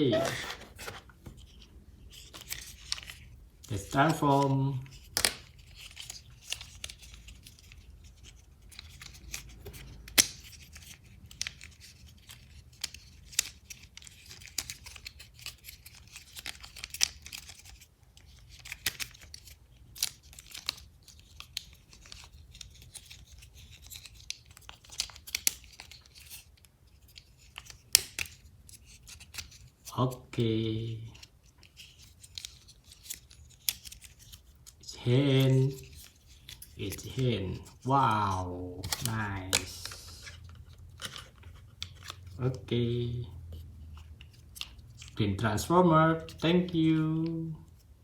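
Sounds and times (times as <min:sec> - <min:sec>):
plastic scraping and rustling: 0:00.0 - 0:48.0.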